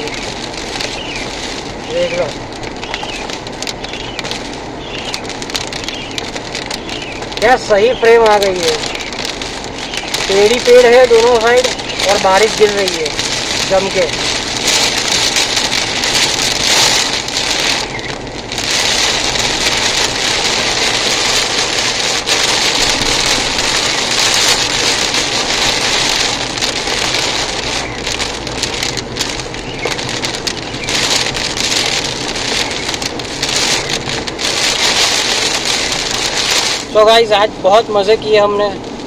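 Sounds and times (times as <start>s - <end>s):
heavy rain on car windscreen: 0.0s - 39.0s
low car rumble: 0.0s - 39.0s.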